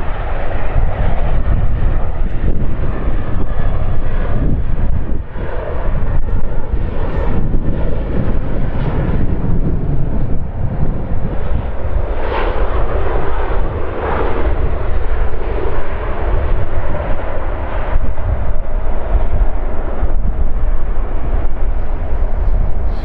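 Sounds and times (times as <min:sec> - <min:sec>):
jet engines rumbling and roaring: 0:00.0 - 0:23.0.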